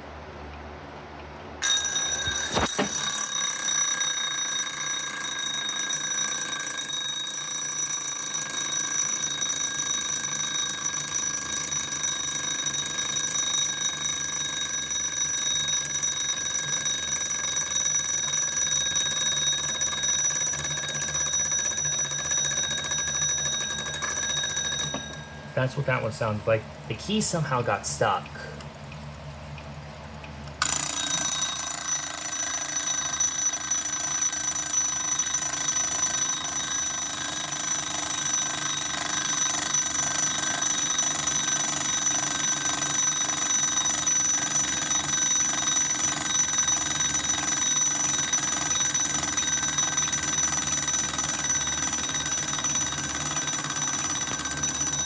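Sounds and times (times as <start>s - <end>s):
alarm clock bell ringing: 1.6s - 26.4s, 30.6s - 55.0s.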